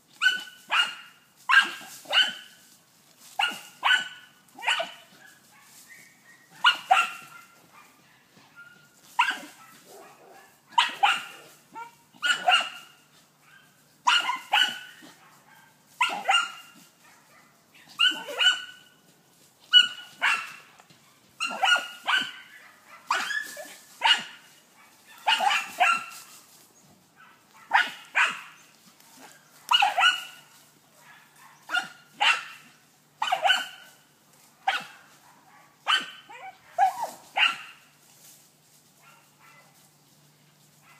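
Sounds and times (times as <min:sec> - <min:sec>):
dog barking: 0:00.2 - 0:02.5, 0:03.4 - 0:18.8, 0:19.7 - 0:26.2, 0:27.2 - 0:34.0, 0:34.6 - 0:37.8, 0:39.0 - 0:39.8.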